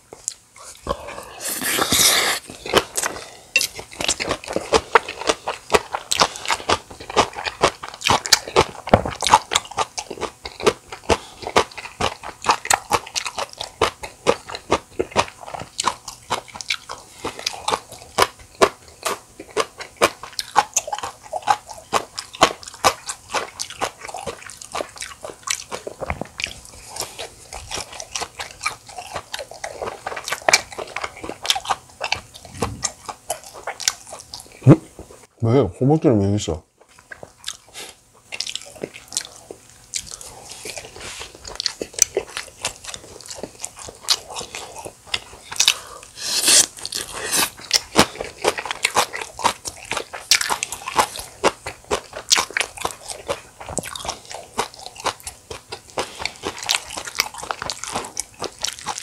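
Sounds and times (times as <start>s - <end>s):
wet crunchy chewing: 0.1s - 35.3s, 36.8s - 59.0s.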